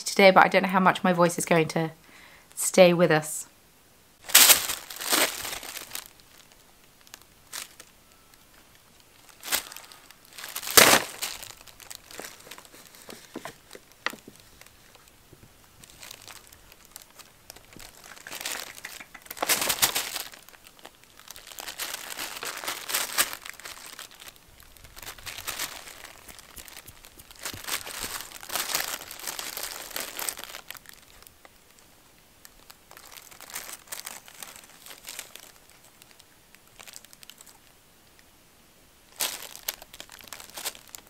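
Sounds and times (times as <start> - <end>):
tissue paper crinkling: 4.2 - 15.1, 15.8 - 31.4, 32.5 - 37.6, 39.1 - 41.0.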